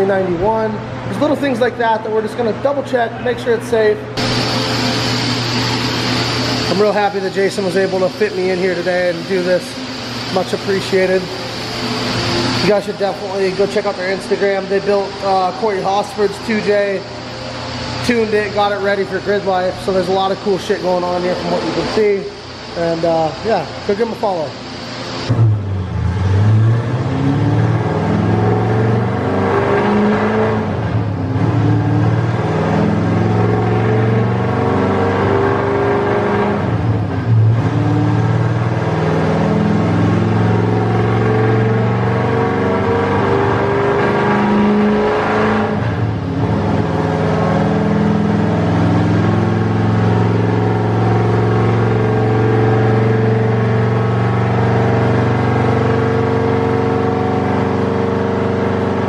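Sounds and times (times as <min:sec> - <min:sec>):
engine running under load: 0:00.0 - 0:59.0.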